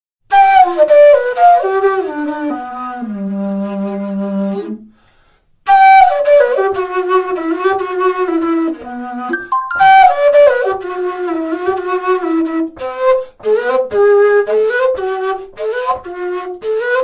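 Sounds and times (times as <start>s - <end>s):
low bamboo flute melody: 0.3s - 4.8s, 5.7s - 17.0s.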